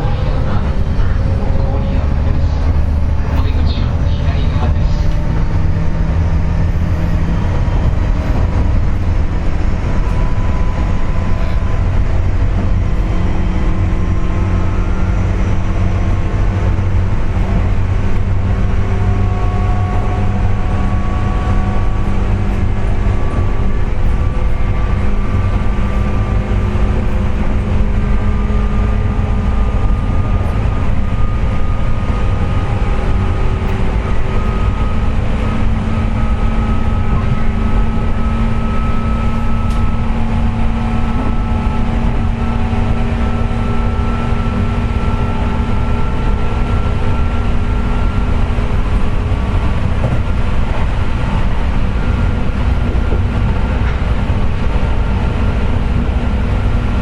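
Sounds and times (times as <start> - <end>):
electric train running: 0.0 - 57.0
heavy rumble with whining tones: 0.0 - 57.0.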